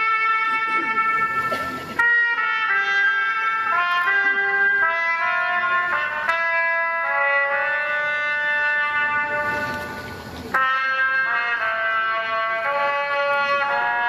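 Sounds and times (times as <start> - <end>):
trumpet playing slow melody: 0.0 - 14.0.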